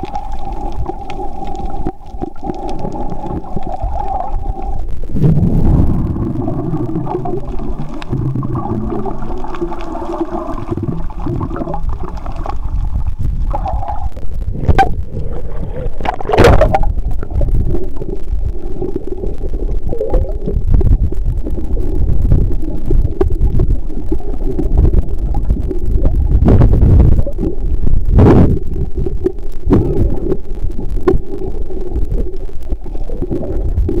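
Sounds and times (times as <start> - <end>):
underwater rumble with gurgling: 0.0 - 34.0.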